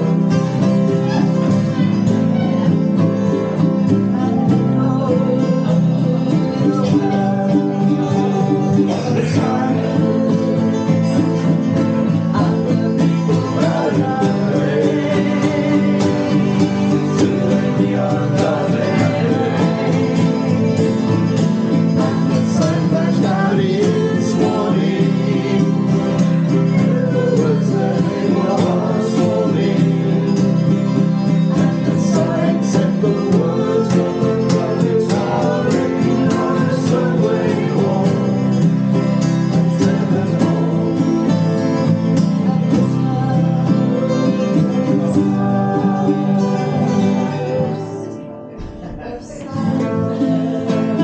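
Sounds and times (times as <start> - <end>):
country acoustic guitar music: 0.0 - 51.0.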